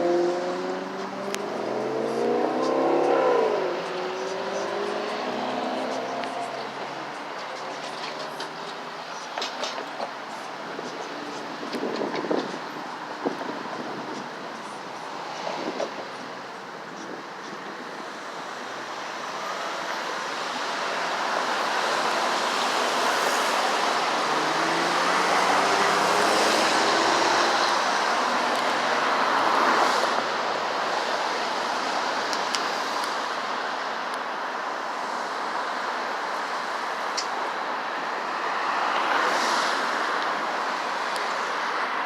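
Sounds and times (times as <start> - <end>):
passing vehicle traffic: 0.0 - 42.0.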